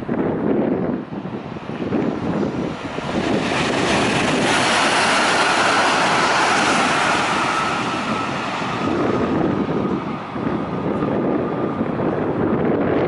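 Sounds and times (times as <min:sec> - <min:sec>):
high train whine: 0:00.0 - 0:13.0
wind buffeting microphone: 0:00.0 - 0:13.0
train rushing past: 0:00.1 - 0:13.0.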